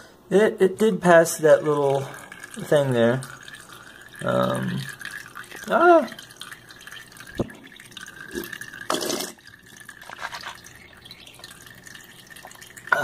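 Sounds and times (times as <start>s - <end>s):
water trickling into cups: 0.4s - 13.0s
water dripping: 1.1s - 13.0s.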